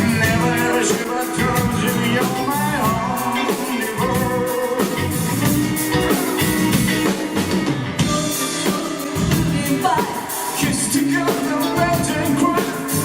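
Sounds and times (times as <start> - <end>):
drum rimshots and bass drum: 0.0 - 13.0
live band playing: 0.0 - 13.0
person singing: 0.0 - 13.0.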